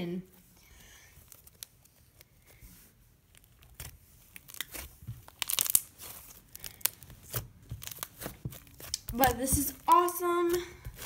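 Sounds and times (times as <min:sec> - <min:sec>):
slime stretching and tearing: 0:00.9 - 0:11.0.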